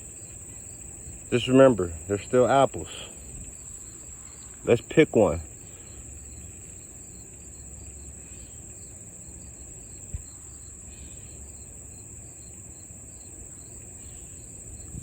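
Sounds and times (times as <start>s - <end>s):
faint chirps: 0.0s - 9.3s, 9.9s - 15.0s
insect trilling: 0.0s - 15.0s.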